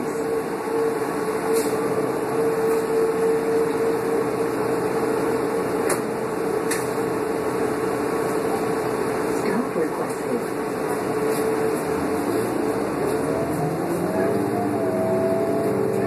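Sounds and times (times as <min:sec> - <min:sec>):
air-conditioning running: 0:00.0 - 0:16.0
bus engine hum: 0:00.0 - 0:16.0.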